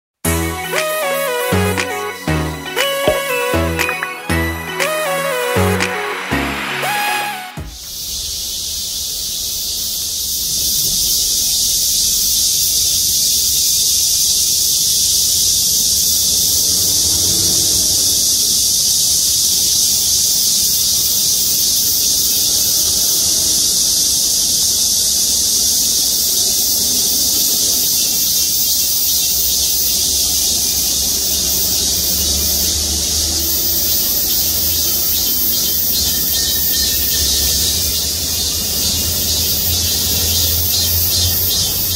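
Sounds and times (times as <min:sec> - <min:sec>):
cicadas buzzing: 0:04.6 - 0:41.9.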